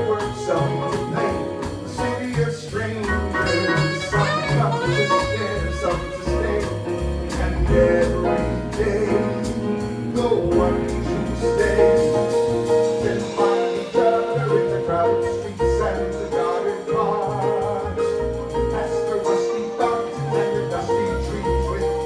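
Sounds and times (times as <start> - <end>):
jazz band playing: 0.0 - 22.0
walking bass notes: 0.0 - 22.0.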